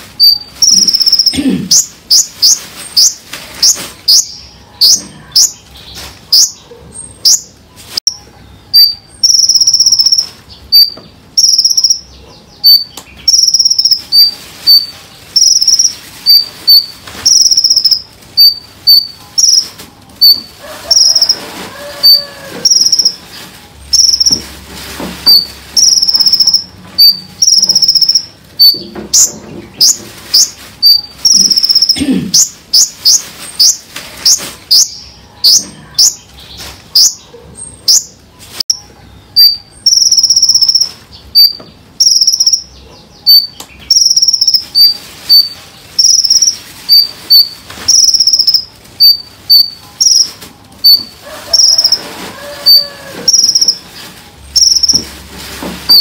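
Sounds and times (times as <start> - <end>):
songbird singing: 0.1 - 24.5, 25.2 - 55.1.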